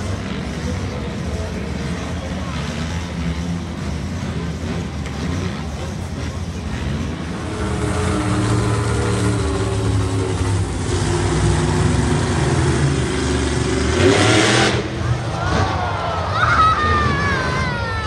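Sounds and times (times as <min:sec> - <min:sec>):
atv engines buzzing: 0:00.0 - 0:18.0
monster truck engine roaring: 0:00.0 - 0:18.0.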